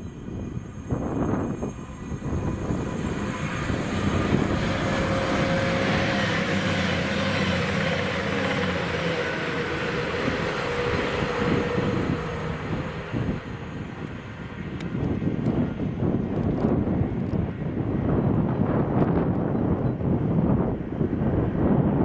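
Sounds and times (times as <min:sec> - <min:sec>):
diesel train passing: 0:00.0 - 0:22.0.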